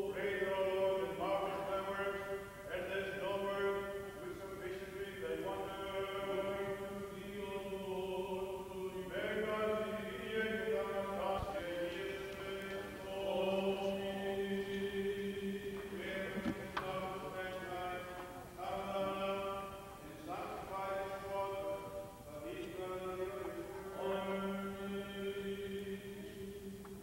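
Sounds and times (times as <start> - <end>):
man chanting prayers: 0.0 - 27.0.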